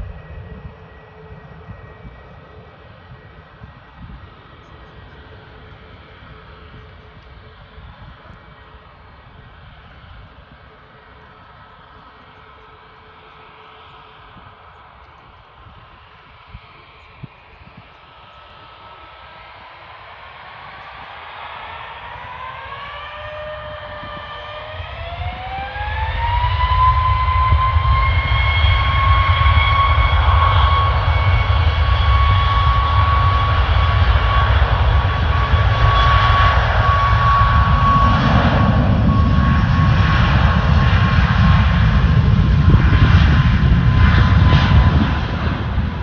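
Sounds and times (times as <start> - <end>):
heavy rumble of airliner rolling: 0.0 - 46.0
jet engines spooling up: 0.0 - 46.0.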